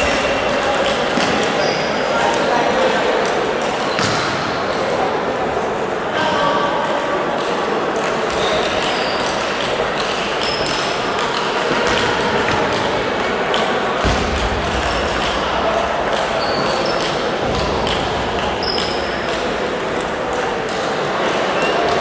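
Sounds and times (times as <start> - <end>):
murmur of hall noise: 0.0 - 22.0.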